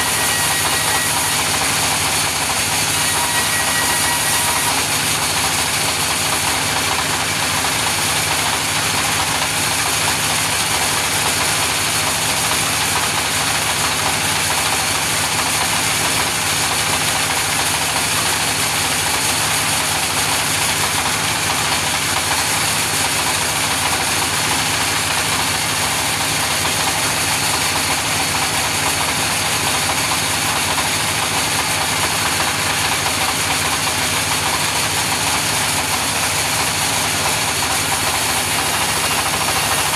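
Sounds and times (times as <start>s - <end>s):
sawmill saw droning: 0.0s - 39.9s.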